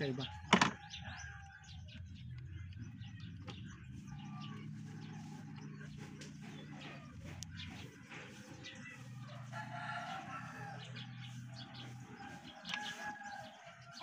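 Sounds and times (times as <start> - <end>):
chickens and birds calling: 0.0 - 14.0.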